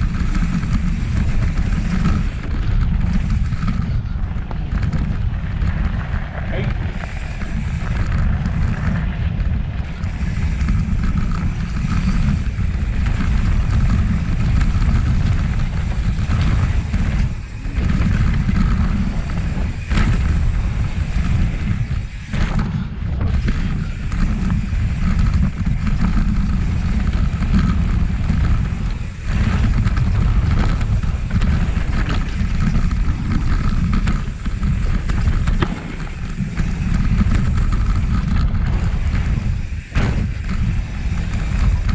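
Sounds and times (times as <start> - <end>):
bicycle tyre and frame noise: 0.0 - 41.9
wind buffeting microphone: 0.0 - 41.9.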